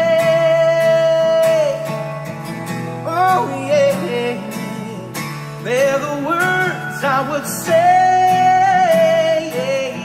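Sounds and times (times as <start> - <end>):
man singing: 0.0 - 2.3, 3.0 - 10.0
strummed acoustic guitar: 0.0 - 10.0.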